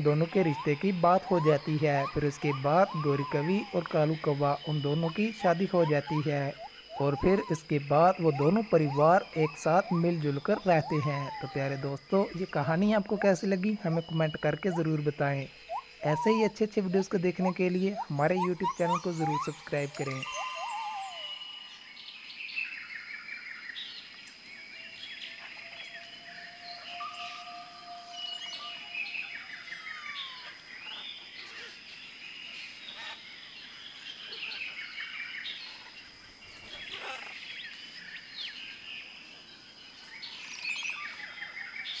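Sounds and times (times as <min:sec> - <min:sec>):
birds chirping and calling: 0:00.0 - 0:42.0.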